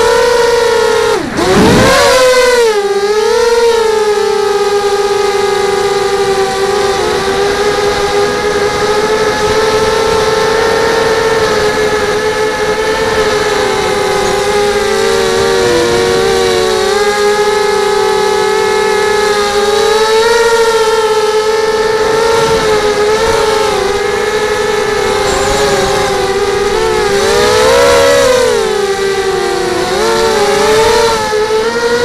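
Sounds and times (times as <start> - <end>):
drone propellers whining: 0.0 - 32.0.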